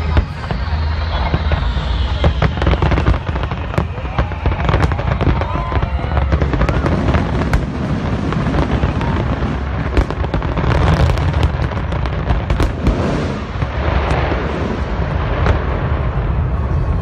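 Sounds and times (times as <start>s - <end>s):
fireworks booming and cracking: 0.0s - 17.0s.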